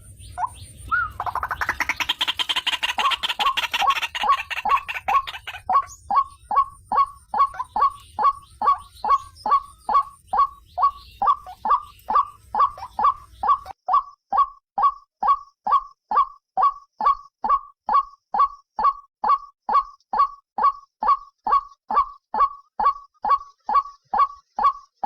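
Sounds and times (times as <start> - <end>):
waterhen croaking calls: 0.0 - 25.0.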